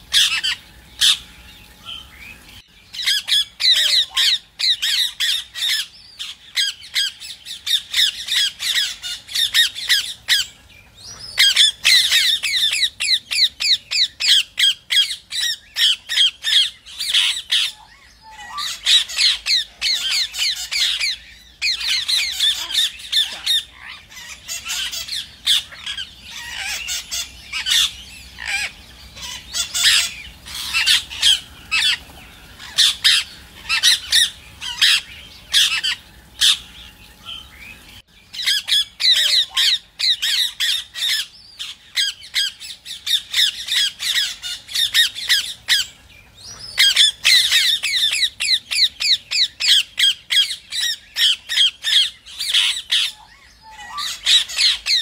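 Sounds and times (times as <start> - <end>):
parakeets squawking: 0.0 - 55.0.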